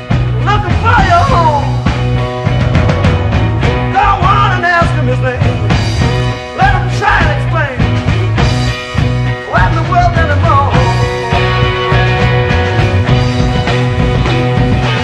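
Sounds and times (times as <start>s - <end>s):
music with steady beat and bass: 0.0s - 15.0s
sliding melody line: 0.6s - 15.0s.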